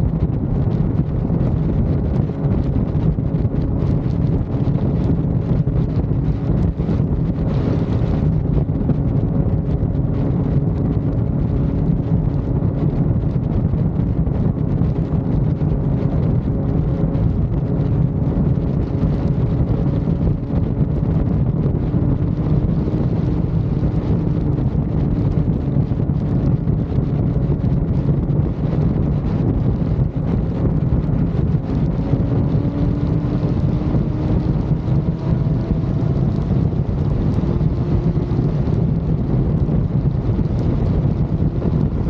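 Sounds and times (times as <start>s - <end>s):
motorcycle engine drone: 0.0s - 42.0s
wind buffeting microphone: 0.0s - 42.0s.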